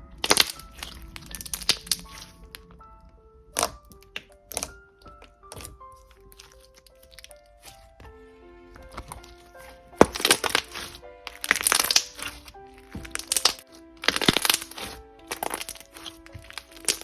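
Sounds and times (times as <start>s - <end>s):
soft background music: 0.0s - 17.0s
slime crackling and popping: 0.1s - 2.8s, 3.5s - 8.1s, 8.8s - 17.0s.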